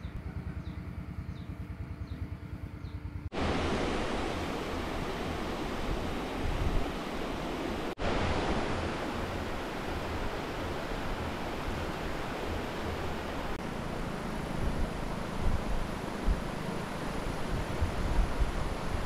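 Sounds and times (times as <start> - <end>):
steady rushing noise: 3.3 - 19.0.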